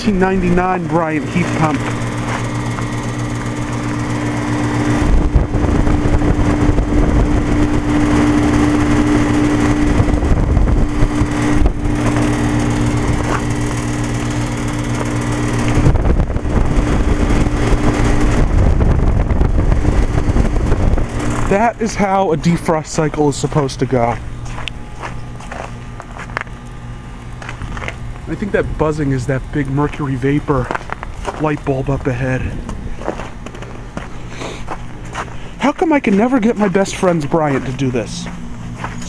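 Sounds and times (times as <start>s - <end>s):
compressor hum: 0.0s - 39.0s
deep rumble: 0.0s - 39.0s.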